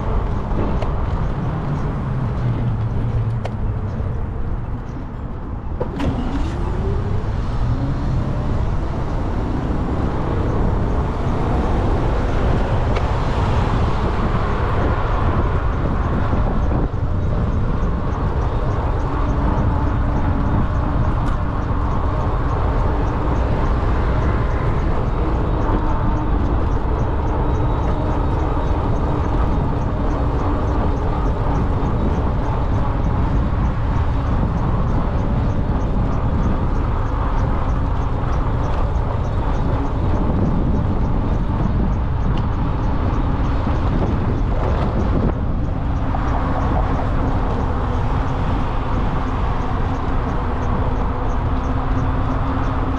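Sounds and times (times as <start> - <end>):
rolling road noise: 0.0 - 52.9
wind buffeting microphone: 0.0 - 52.9.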